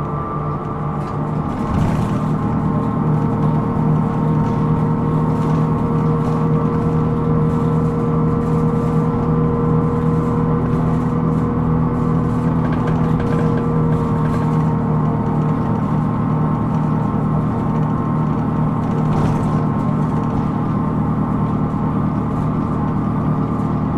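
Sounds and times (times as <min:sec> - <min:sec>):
bus running noise: 0:00.0 - 0:23.9.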